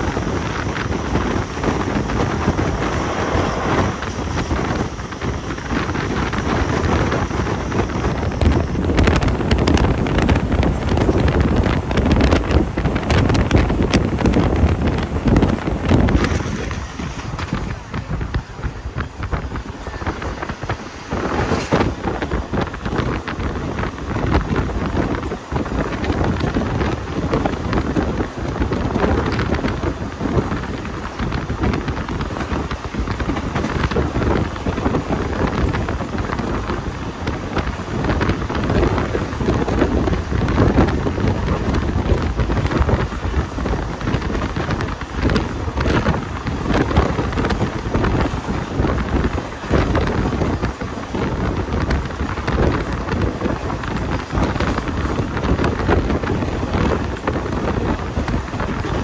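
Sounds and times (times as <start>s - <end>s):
moving train rumble: 0.0s - 59.0s
wind buffeting the microphone: 0.0s - 59.0s.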